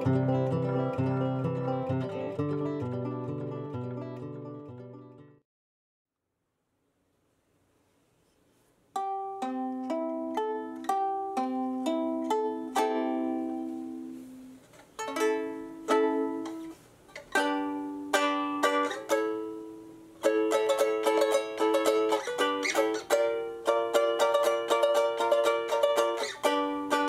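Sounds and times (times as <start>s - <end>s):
ukulele fingerpicking: 0.0s - 5.4s, 8.9s - 27.0s.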